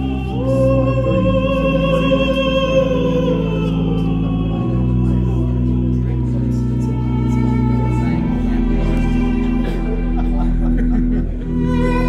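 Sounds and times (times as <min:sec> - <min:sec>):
low bass tones: 0:00.0 - 0:12.0.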